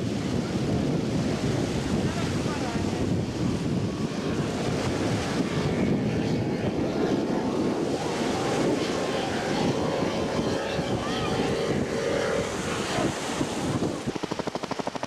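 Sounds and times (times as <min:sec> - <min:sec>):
faint powerboat engine drone: 0:00.0 - 0:15.0
wind buffeting the microphone: 0:00.0 - 0:15.0.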